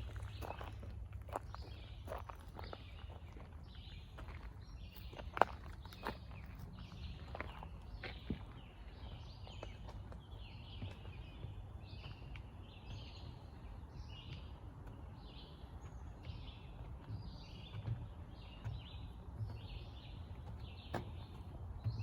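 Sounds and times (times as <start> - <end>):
birds chirping: 0.0 - 22.0
soft footsteps on trail: 0.0 - 22.0.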